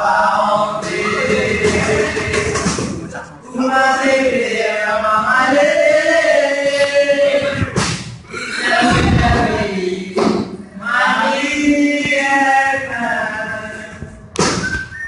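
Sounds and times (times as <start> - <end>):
young men singing together: 0.0 - 14.3.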